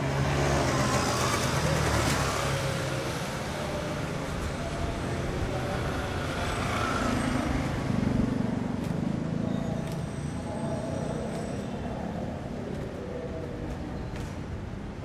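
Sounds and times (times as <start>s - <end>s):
motorbikes passing: 0.0s - 13.9s
traffic noise: 0.0s - 15.0s.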